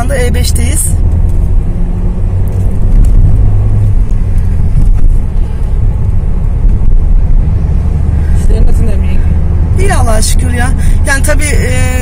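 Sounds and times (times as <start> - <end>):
car engine: 0.0 - 12.0
road noise: 0.0 - 12.0.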